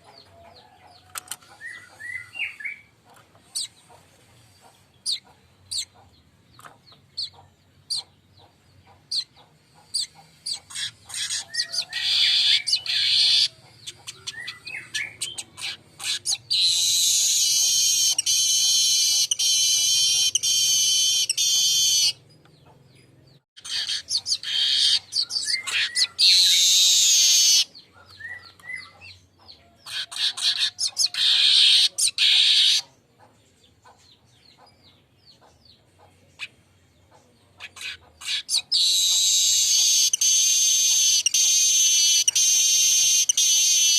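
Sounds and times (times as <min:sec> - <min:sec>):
weaver bird singing: 0:00.0 - 0:43.9.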